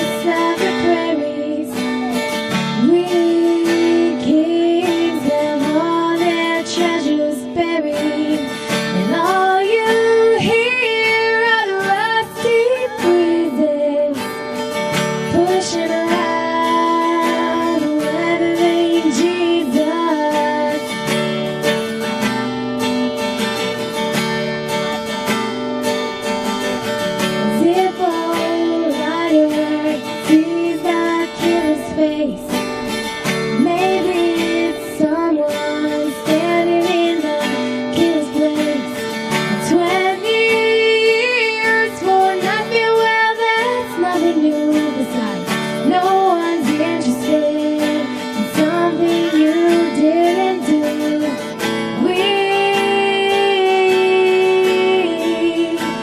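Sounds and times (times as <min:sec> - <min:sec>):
woman singing slow song: 0:00.0 - 0:21.9, 0:26.8 - 0:56.0
strummed acoustic guitar: 0:00.0 - 0:56.0.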